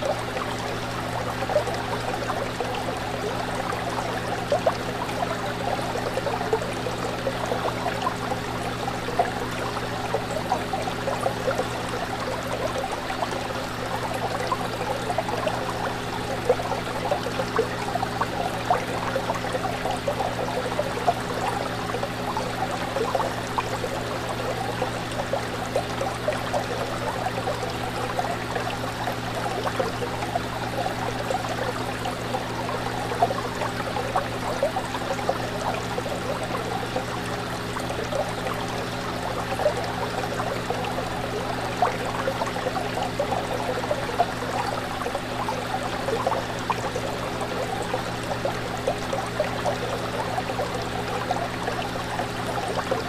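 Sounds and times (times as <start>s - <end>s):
fish tank water bubbling: 0.0s - 53.0s.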